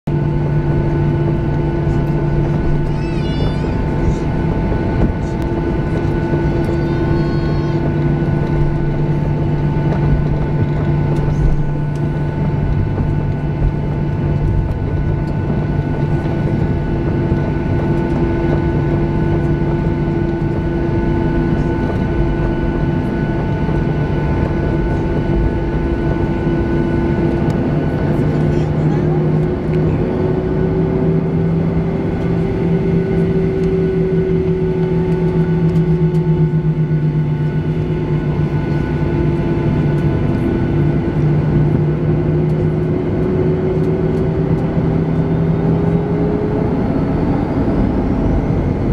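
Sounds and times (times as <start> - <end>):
aircraft cabin engine hum: 0.1 - 48.9.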